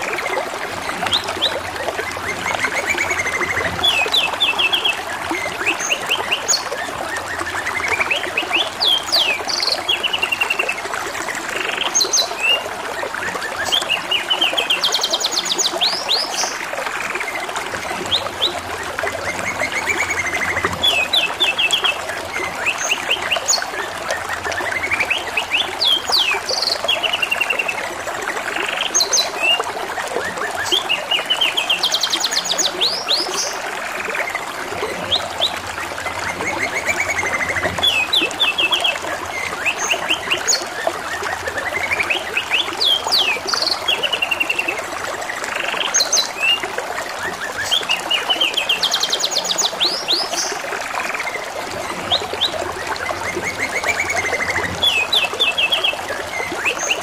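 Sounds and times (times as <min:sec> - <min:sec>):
trickle of running water: 0:00.0 - 0:57.0.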